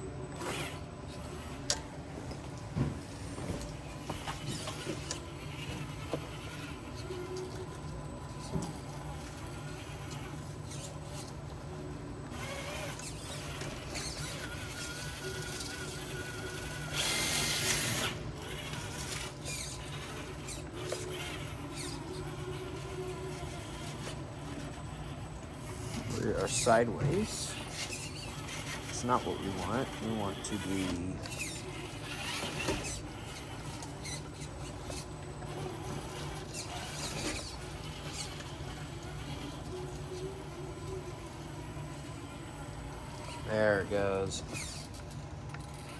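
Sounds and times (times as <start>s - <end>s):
toy car electric motor whining: 0.0s - 45.9s.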